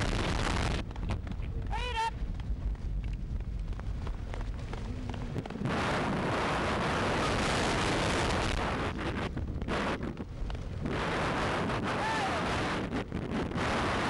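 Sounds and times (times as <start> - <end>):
wheeled cart rumbling and rattling: 0.0 - 11.6
wind noise on microphone: 0.0 - 14.0.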